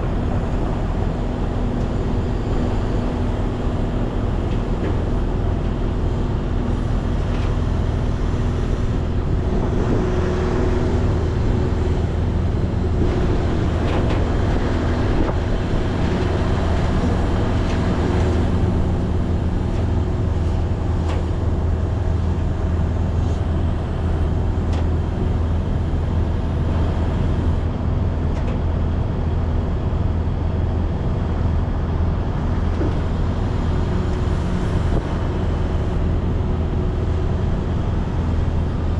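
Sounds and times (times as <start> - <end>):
diesel truck engine running: 0.0 - 38.9
road noise: 0.0 - 38.9.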